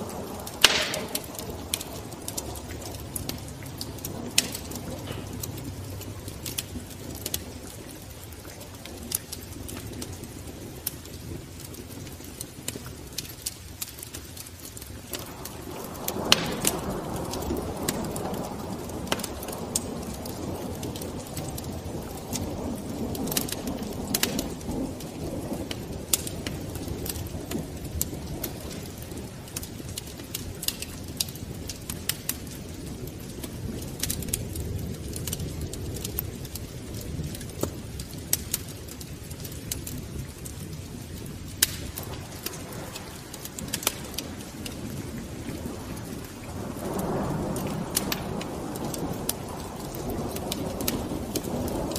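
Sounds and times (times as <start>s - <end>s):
logs crackling and popping: 0.0s - 51.9s
wood fire rumbling: 0.0s - 51.9s.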